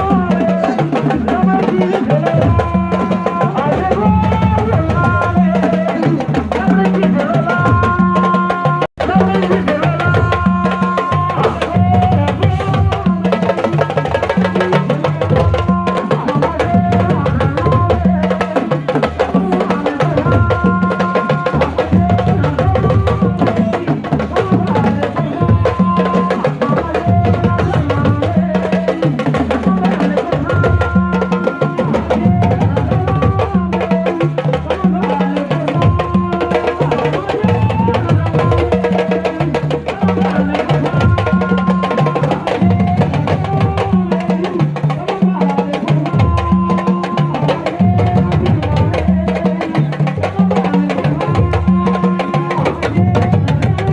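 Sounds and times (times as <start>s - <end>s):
driving percussion: 0.0s - 53.9s.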